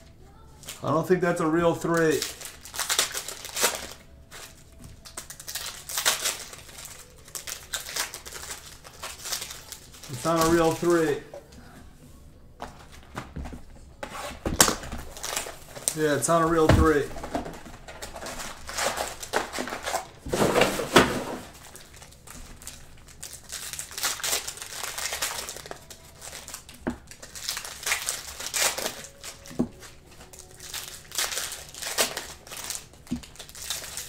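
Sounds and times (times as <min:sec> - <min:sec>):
plastic wrapping crinkling: 0:01.6 - 0:11.3, 0:14.0 - 0:34.0.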